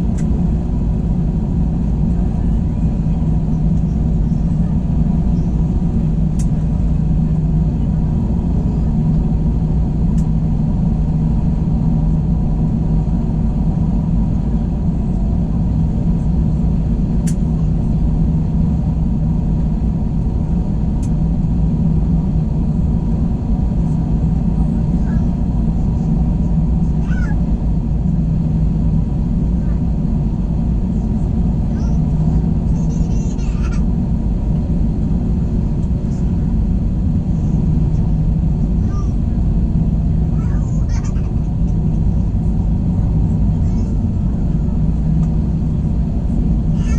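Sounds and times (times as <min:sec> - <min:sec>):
jet engine drone in cabin: 0:00.0 - 0:46.9.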